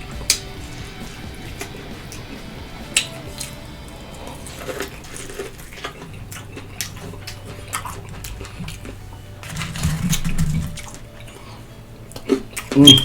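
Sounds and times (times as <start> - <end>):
chewing with wet mouth clicks: 0.0 - 13.0.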